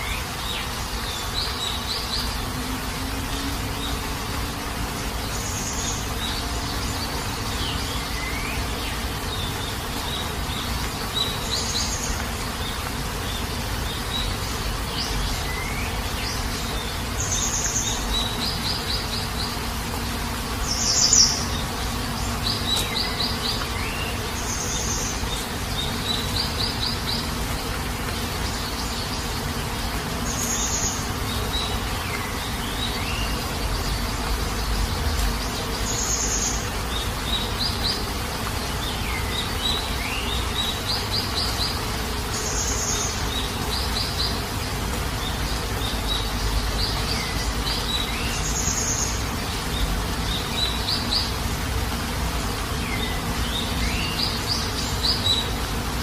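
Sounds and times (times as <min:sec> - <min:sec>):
birds chirping and trilling: 0:00.0 - 0:56.0
steady rain falling: 0:00.0 - 0:56.0.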